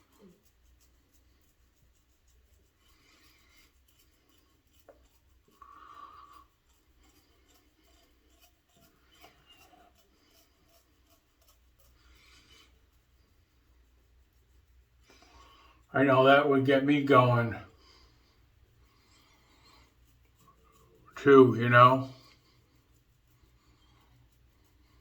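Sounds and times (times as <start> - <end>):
razor scraping stubble: 0.0 - 25.0.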